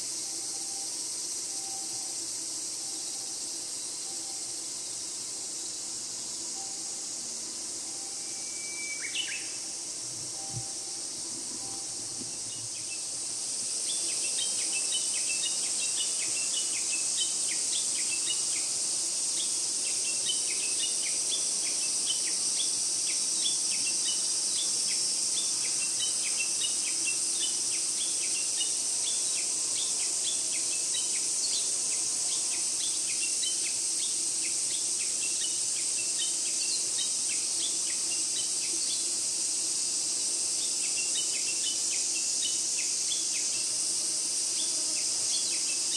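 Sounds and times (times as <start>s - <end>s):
insect chirps: 0.0s - 45.9s
insects shrill drone: 0.0s - 45.9s.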